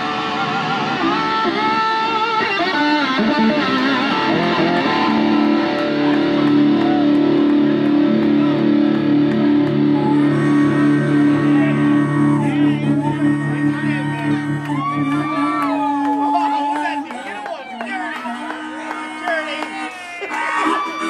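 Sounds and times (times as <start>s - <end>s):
electric guitar with rock band: 0.0s - 21.0s.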